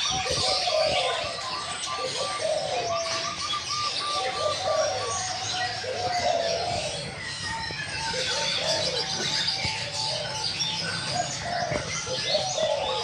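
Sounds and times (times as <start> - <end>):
doves cooing: 0.0 - 13.0
small birds chirping: 0.0 - 13.0.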